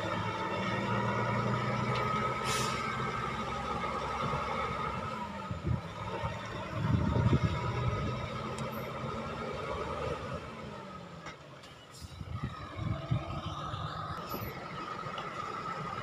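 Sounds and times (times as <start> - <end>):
diesel truck engine: 0.0 - 16.0.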